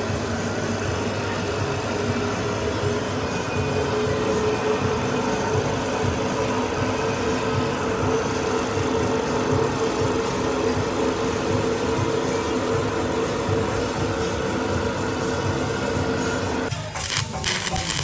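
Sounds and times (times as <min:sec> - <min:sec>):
metal lathe running: 0:00.0 - 0:18.0.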